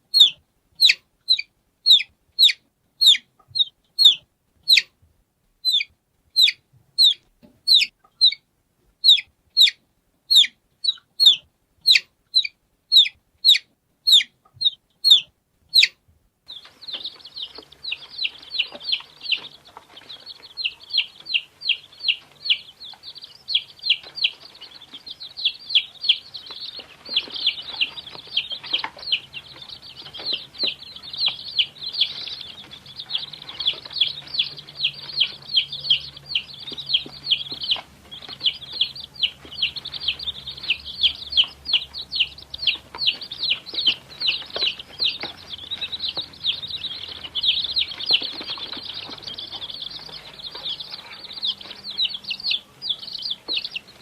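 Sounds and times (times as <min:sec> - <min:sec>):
chick peeping: 0:00.0 - 0:05.0, 0:05.6 - 0:54.0
chorus of chicks peeping: 0:00.0 - 0:54.0.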